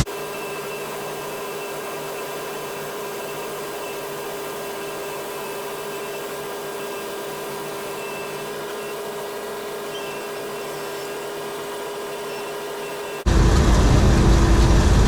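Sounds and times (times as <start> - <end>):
combine harvester whirring: 0.0 - 15.0.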